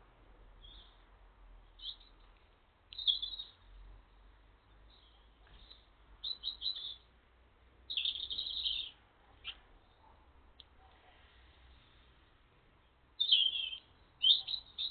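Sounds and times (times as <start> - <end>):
small birds chirping: 0.5 - 7.2, 7.8 - 14.9.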